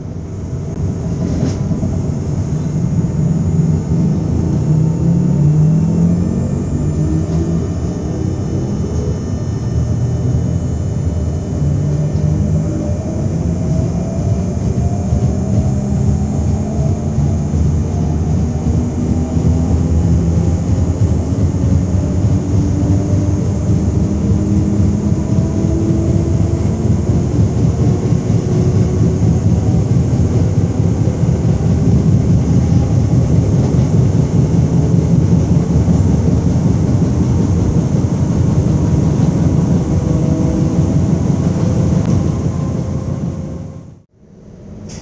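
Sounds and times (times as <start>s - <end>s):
train equipment humming: 0.0s - 45.0s.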